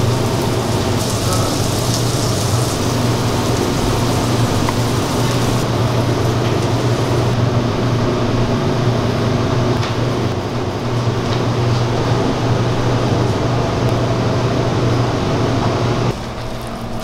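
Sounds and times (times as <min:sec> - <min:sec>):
ventilation machine hum: 0:00.0 - 0:17.0.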